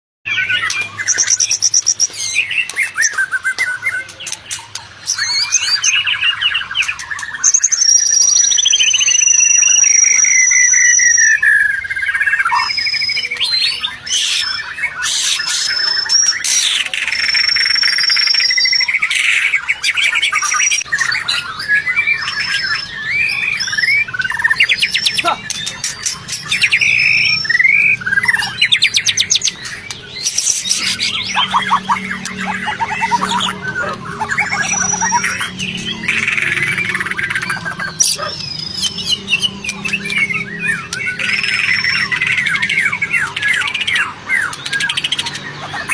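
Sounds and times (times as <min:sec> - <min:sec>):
bird singing: 0:00.3 - 0:45.9.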